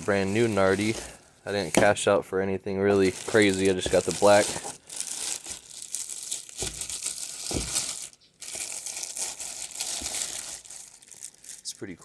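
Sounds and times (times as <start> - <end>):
packaging crinkling and rustling: 0.0 - 2.0, 2.9 - 12.0.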